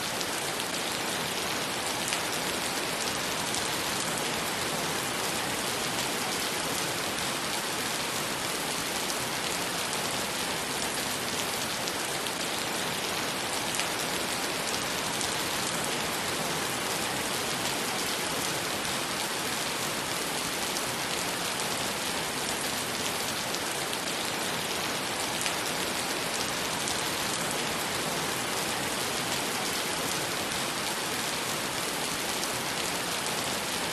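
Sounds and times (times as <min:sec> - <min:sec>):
rain on wet pavement: 0:00.0 - 0:33.9.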